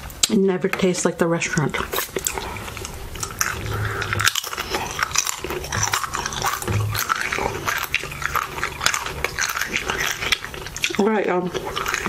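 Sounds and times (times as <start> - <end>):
crunchy chip chewing: 1.8 - 12.0.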